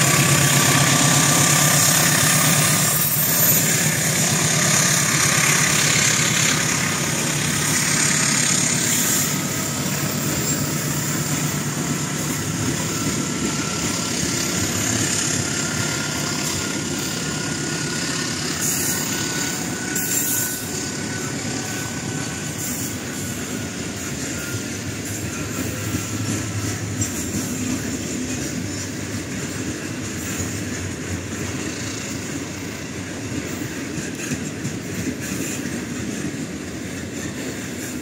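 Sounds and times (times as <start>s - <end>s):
diesel locomotive engine: 0.0s - 38.0s
train wheels rumbling on rails: 0.0s - 38.0s.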